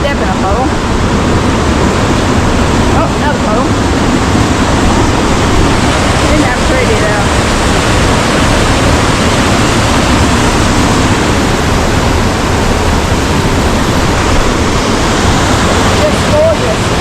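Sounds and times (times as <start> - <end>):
river rushing over boulders: 0.0 - 17.0.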